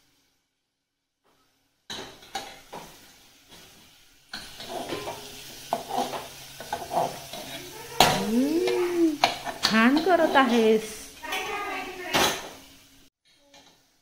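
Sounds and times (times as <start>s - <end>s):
food sizzling: 1.3s - 14.0s.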